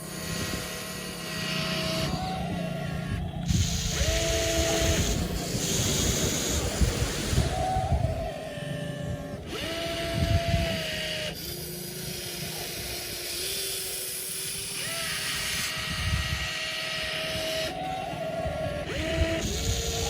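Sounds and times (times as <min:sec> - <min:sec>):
toy excavator motors whining: 0:00.0 - 0:20.0.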